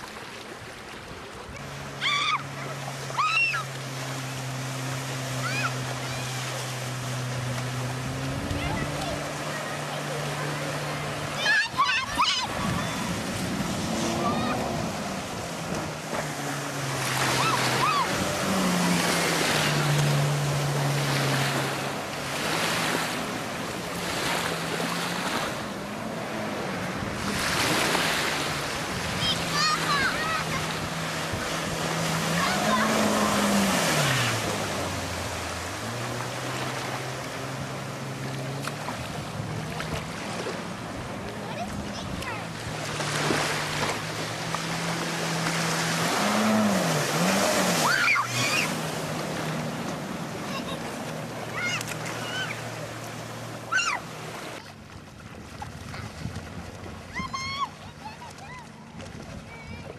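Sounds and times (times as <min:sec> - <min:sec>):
distant jet ski engine droning: 0:00.0 - 0:59.9
surf washing: 0:00.0 - 0:59.9
wind: 0:00.0 - 0:59.9.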